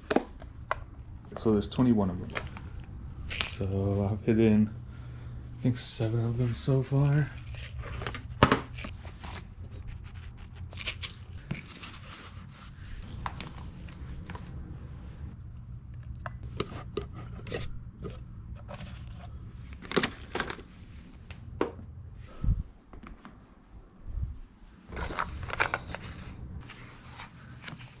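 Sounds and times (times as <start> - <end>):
low hum: 0.0 - 22.9, 23.5 - 28.0.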